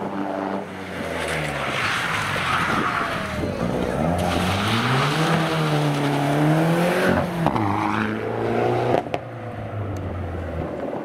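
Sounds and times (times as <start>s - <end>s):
rally car engine accelerating: 0.0s - 9.3s.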